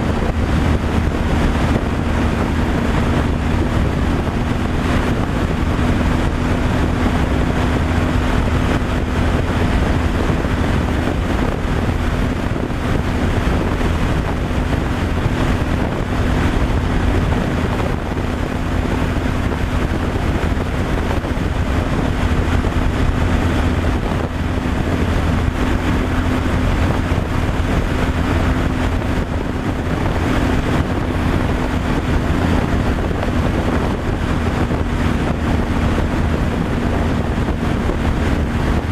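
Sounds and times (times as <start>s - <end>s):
truck engine and road drone: 0.0s - 38.9s
wind buffeting microphone: 0.0s - 38.9s.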